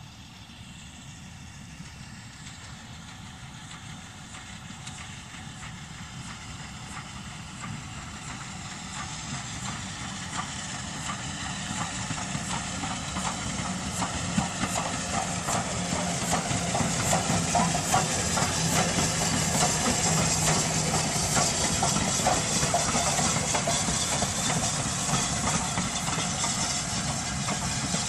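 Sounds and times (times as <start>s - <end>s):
steam locomotive exhaust beats: 0.0s - 28.0s.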